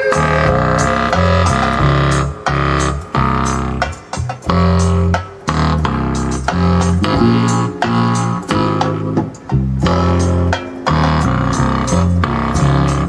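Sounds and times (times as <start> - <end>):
bass line: 0.0 - 13.0.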